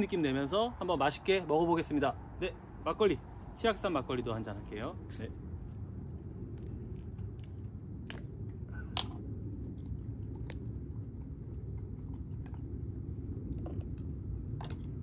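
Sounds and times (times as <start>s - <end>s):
steady low rumble: 0.0s - 15.0s
campfire crackling and popping: 1.2s - 15.0s.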